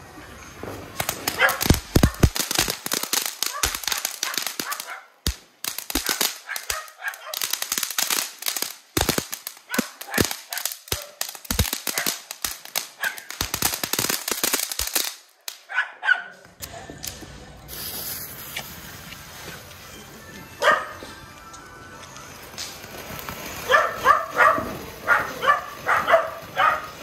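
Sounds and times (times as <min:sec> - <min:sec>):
firework crackling pops: 0:00.6 - 0:15.7, 0:16.5 - 0:19.8, 0:22.2 - 0:27.0.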